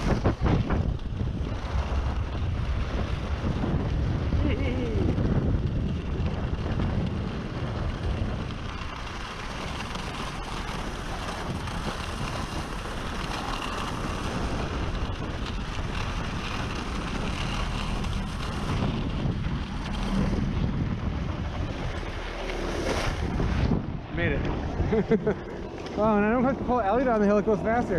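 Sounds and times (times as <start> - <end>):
wind rushing over microphone: 0.0 - 27.9.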